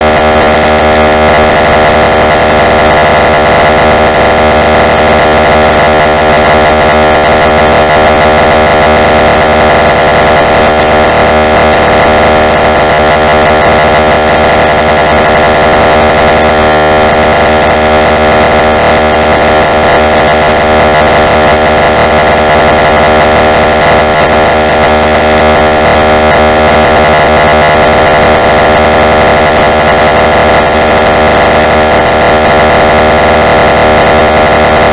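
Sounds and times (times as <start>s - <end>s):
harsh synthesized drone: 0.0s - 34.9s.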